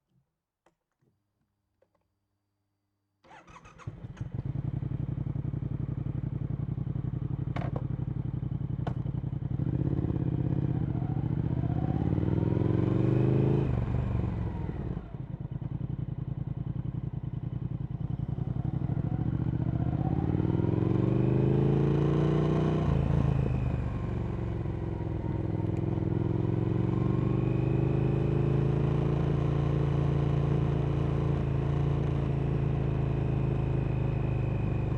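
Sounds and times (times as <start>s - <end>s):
motorcycle engine idling and accelerating: 3.3s - 34.9s.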